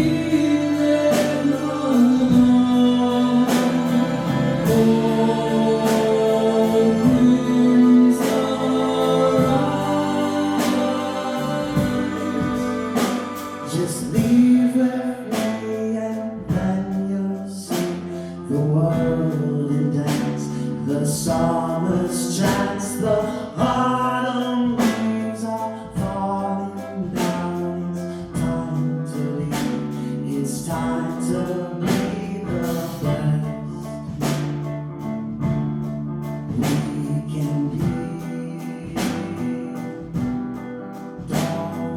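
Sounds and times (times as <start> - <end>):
person singing: 0.0 - 34.4, 36.5 - 41.9.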